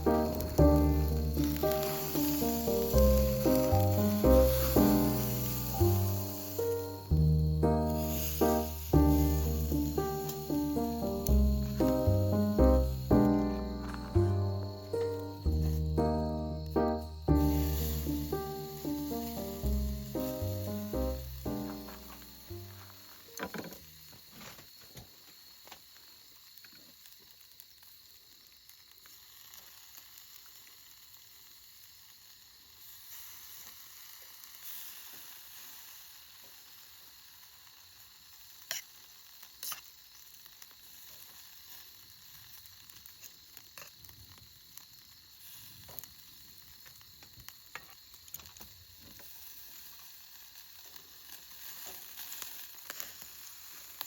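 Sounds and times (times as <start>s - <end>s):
food sizzling with pops: 0.0s - 54.0s.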